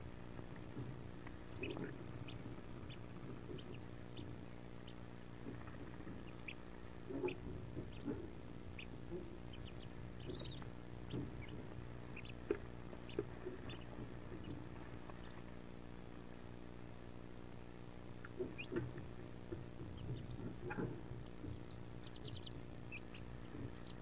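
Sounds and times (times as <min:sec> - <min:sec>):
ducklings peeping: 0:00.0 - 0:24.0
steady low hum: 0:00.0 - 0:24.0
ducklings shuffling in nest: 0:00.1 - 0:16.6, 0:18.3 - 0:24.0.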